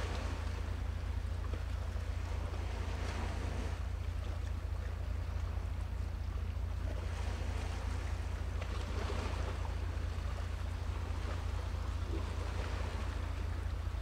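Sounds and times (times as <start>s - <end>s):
waves washing: 0.0s - 14.0s.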